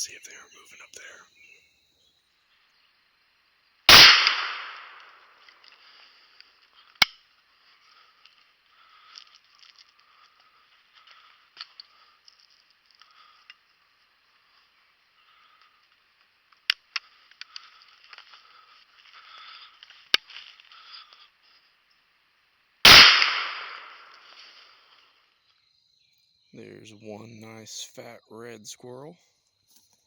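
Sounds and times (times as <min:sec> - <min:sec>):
faint high insect chirring: 0:00.0 - 0:22.9, 0:23.6 - 0:30.0.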